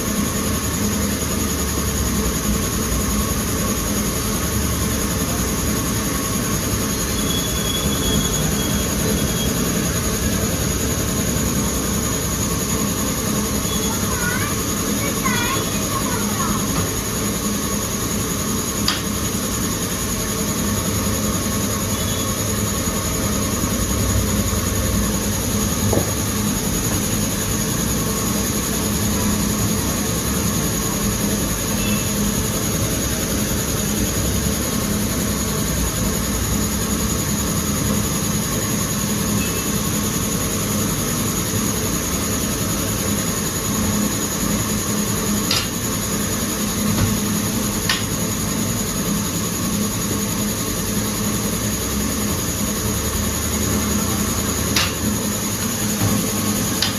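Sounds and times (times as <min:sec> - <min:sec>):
mechanical rumble and hiss: 0:00.0 - 0:56.9.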